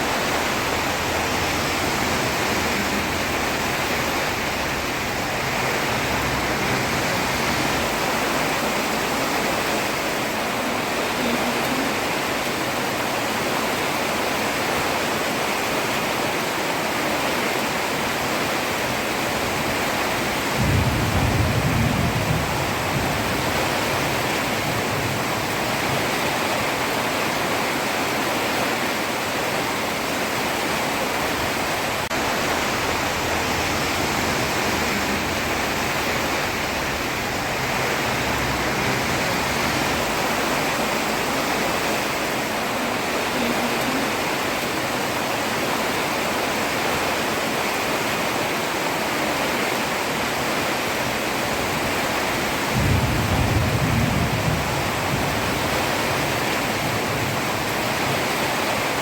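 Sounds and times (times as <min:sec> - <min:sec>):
heavy rain on a road: 0:00.0 - 0:59.0.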